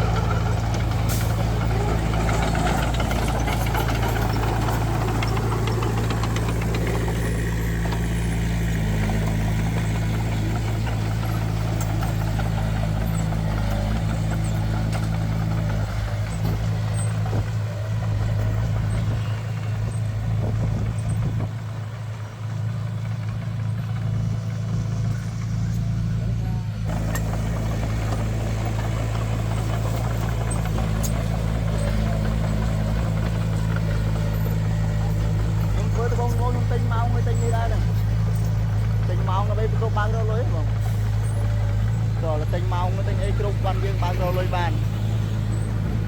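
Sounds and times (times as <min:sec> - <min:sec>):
heavy diesel engine droning: 0:00.0 - 0:46.0.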